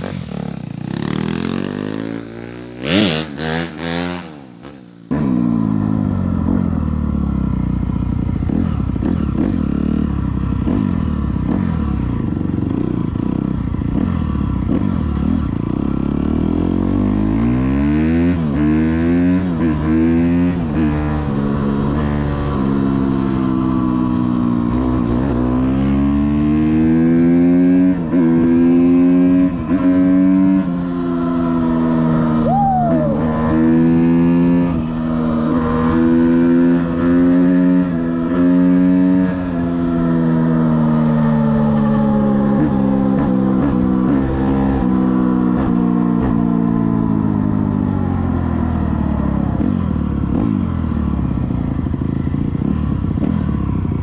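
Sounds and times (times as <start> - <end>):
motocross bike engine revving: 0.0 - 5.9, 8.5 - 46.4.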